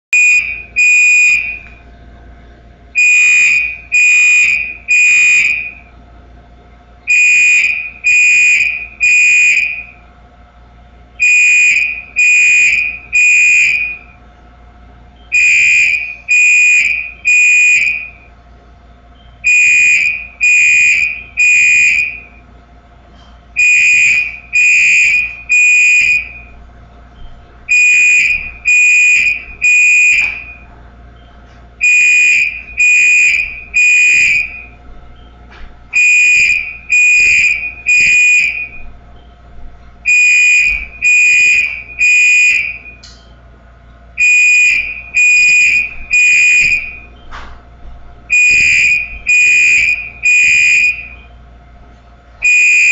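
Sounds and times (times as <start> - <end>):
fire alarm beeping: 0.1 - 1.9, 2.9 - 6.0, 7.0 - 10.1, 11.1 - 14.3, 15.1 - 22.6, 23.5 - 43.3, 44.1 - 47.4, 48.2 - 51.6, 52.4 - 52.9.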